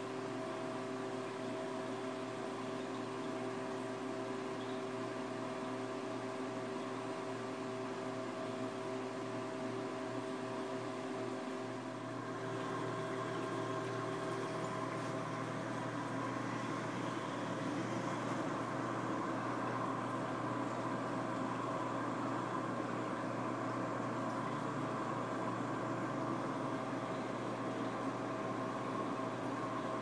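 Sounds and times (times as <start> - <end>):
aquarium pumps humming: 0.0 - 30.0.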